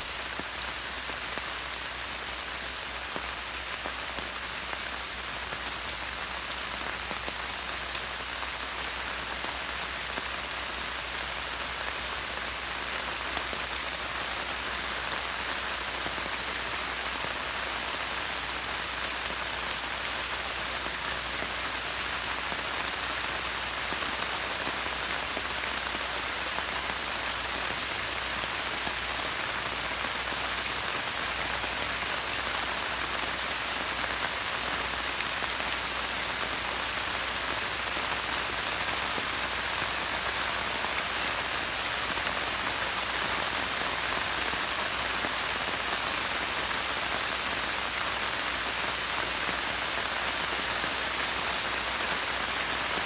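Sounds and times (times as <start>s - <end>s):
steady rain pattering: 0.0s - 53.0s.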